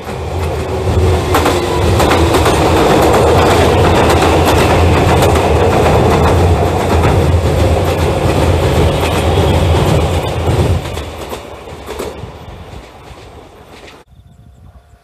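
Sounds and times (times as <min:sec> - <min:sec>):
wheels clicking over rail joints: 0:00.0 - 0:14.0
train rumbling over bridge: 0:00.0 - 0:15.0.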